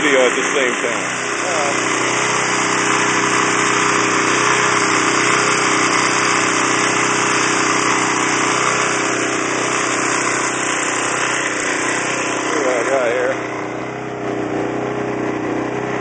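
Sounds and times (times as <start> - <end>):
snowblower engine running: 0.0 - 16.0.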